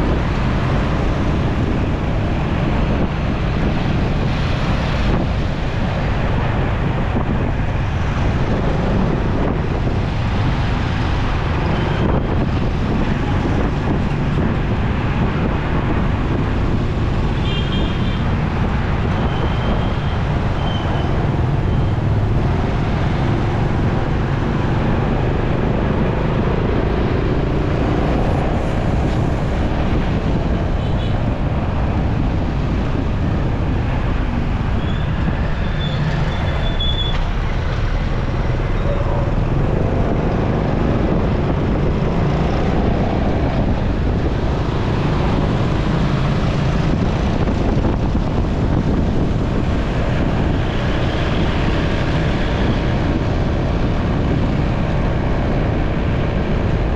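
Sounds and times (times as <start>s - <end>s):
city traffic rumble: 0.0s - 56.9s
wind buffeting microphone: 0.0s - 56.9s.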